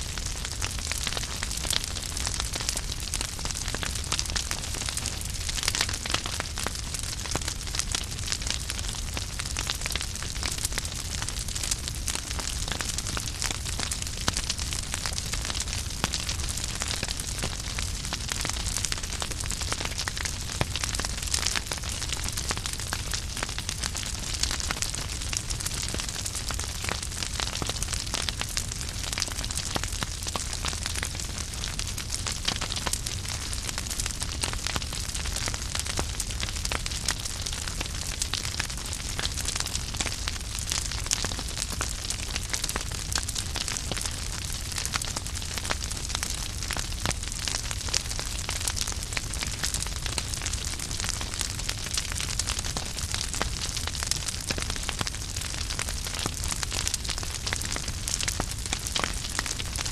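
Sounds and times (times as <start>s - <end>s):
low rumble of flames: 0.0s - 59.9s
wood fire crackling: 0.1s - 59.9s.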